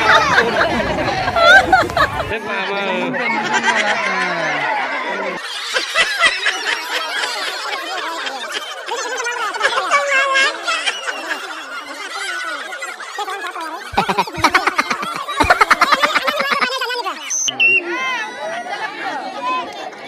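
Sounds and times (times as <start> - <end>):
children shouting and laughing: 0.0 - 20.0.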